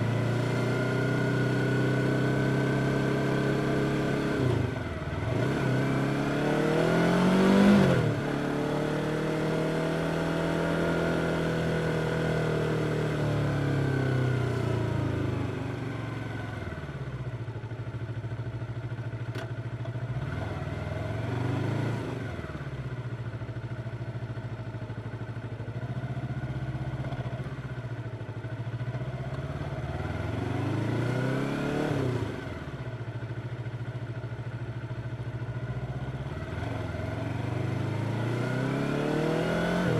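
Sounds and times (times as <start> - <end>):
motorcycle engine revving: 0.0 - 17.0, 20.0 - 24.4, 25.7 - 34.2, 35.4 - 39.9.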